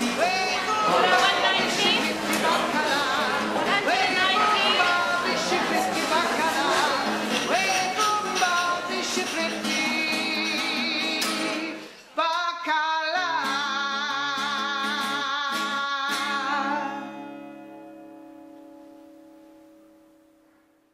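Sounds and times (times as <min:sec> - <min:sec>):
plucked guitar: 0:00.0 - 0:11.9, 0:13.1 - 0:20.9
person singing: 0:00.0 - 0:17.6.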